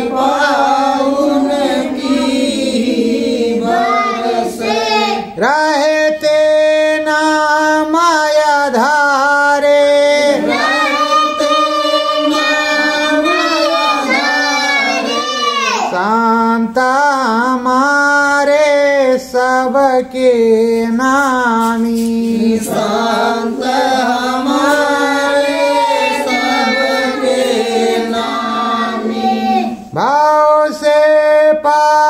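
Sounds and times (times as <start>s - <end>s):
person singing devotional song: 0.0s - 32.0s.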